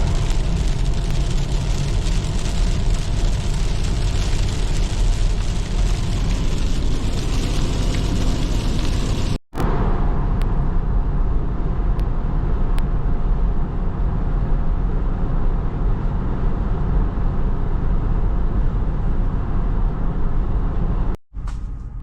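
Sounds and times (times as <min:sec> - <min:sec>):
car road and wind noise: 0:00.0 - 0:22.0.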